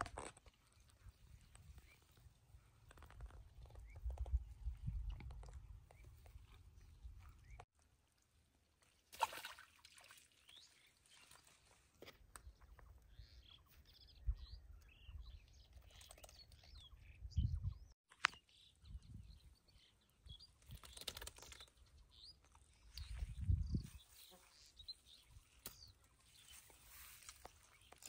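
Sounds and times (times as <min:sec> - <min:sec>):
small birds chirping: 0:00.0 - 0:07.7, 0:10.1 - 0:28.0.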